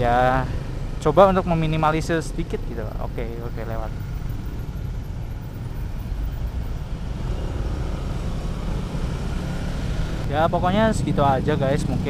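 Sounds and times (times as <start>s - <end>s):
motorcycle engine rumbling: 0.0s - 12.0s
road noise: 0.0s - 12.0s.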